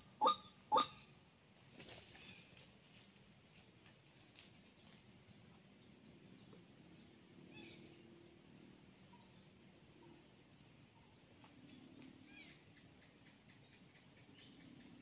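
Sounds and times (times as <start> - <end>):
high-pitched insect hum: 0.0 - 15.0.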